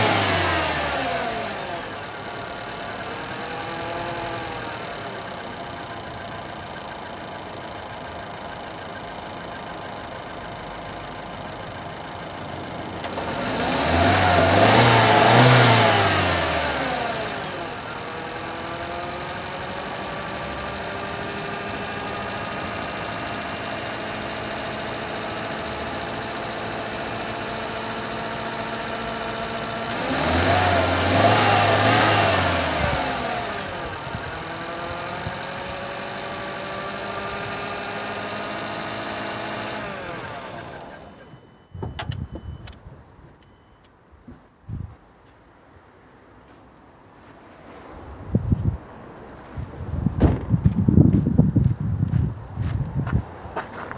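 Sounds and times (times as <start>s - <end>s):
car engine idling and revving: 0.0s - 44.0s, 47.7s - 53.9s.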